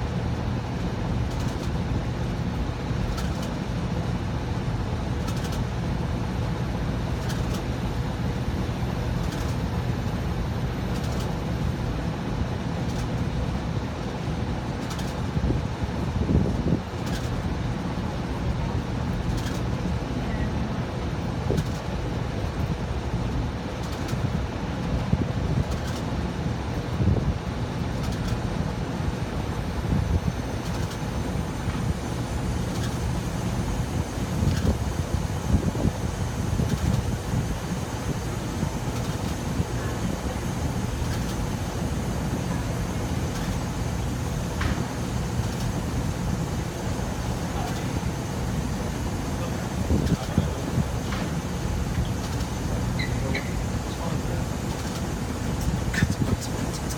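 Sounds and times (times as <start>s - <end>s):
air conditioning blower humming: 0.0s - 56.9s.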